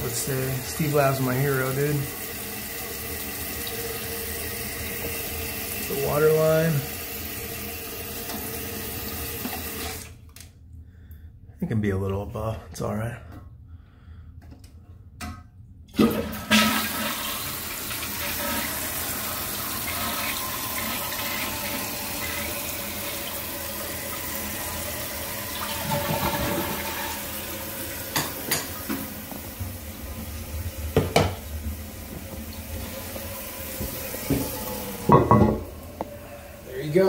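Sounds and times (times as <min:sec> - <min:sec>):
toilet tank filling with water: 0:00.0 - 0:10.2, 0:15.9 - 0:37.0.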